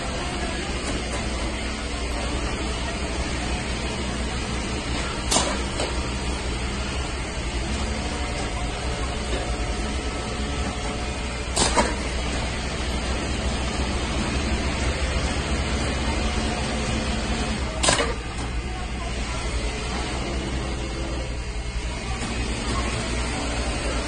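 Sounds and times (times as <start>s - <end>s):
fabric winding machine running: 0.0s - 24.0s
low machine hum: 0.0s - 24.0s.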